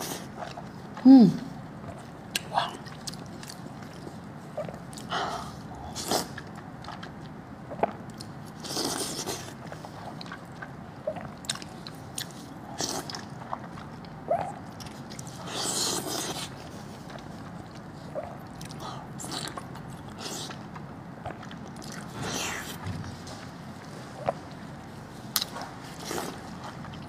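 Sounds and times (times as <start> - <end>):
wet chewing and smacking: 1.6 - 27.0.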